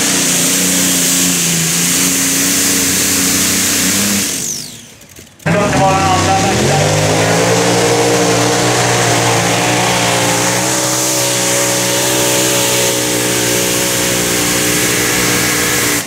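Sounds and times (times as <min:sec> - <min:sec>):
racing engine at high revs: 0:00.0 - 0:16.0.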